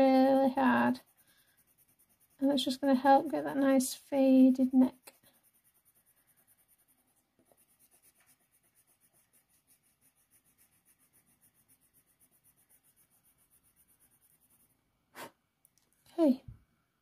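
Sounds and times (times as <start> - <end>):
colour pencil scratching paper: 0.0 - 14.8.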